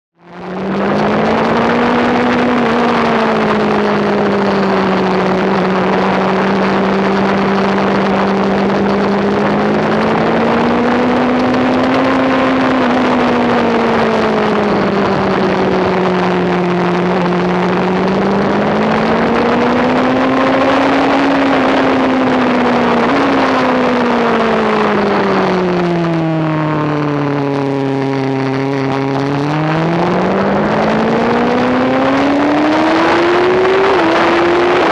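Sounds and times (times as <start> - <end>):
motorcycle engine revving: 0.2 - 34.9
wind on microphone: 0.2 - 34.9.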